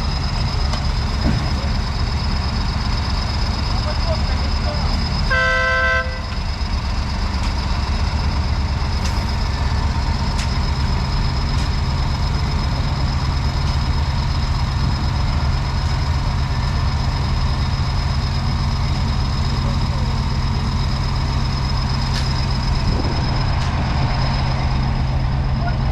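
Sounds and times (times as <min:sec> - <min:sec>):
heavy diesel engine running: 0:00.0 - 0:25.9
high-pitched whine: 0:00.0 - 0:25.9.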